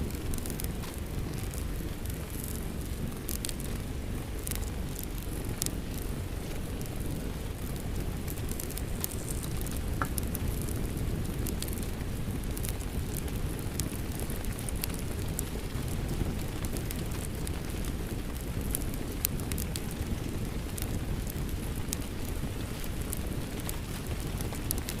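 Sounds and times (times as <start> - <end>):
fireplace fire crackling: 0.0 - 25.0
rain rumbling: 0.0 - 25.0.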